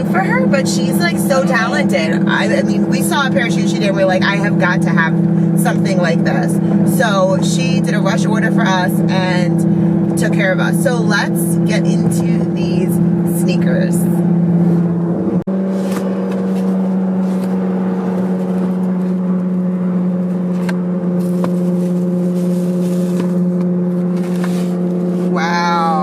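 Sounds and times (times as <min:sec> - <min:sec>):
car engine droning inside cabin: 0:00.0 - 0:26.0.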